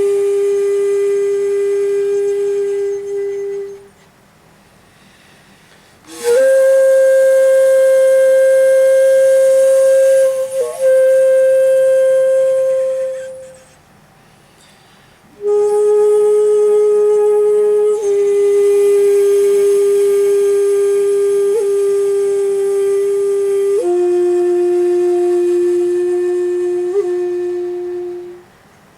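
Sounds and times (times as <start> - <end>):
bamboo flute held notes: 0.0 - 4.2, 6.0 - 13.9, 14.5 - 28.9.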